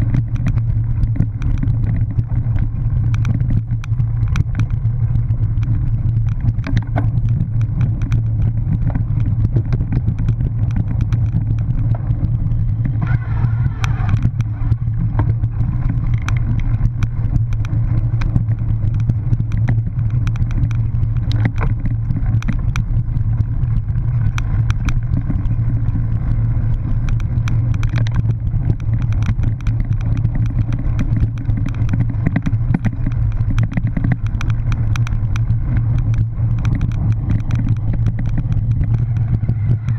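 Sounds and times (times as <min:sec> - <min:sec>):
bike rattling and clattering: 0:00.0 - 0:39.9
bike rumbling over grass: 0:00.0 - 0:39.9.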